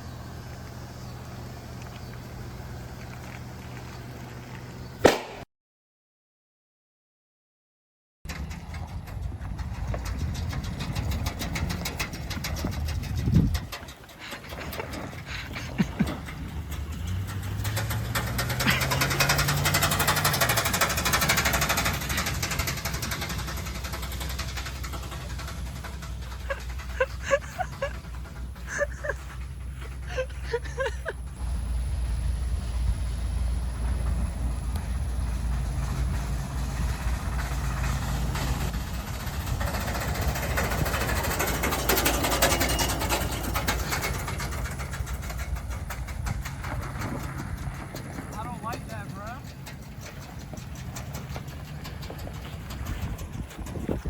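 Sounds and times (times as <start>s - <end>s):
vehicle engine running: 0.0s - 5.4s, 8.3s - 54.0s.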